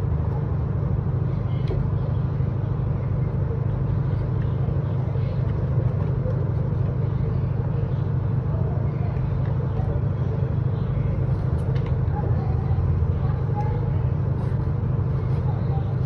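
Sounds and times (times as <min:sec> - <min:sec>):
faint even hum: 0:00.0 - 0:16.0
low rumble: 0:00.0 - 0:16.0.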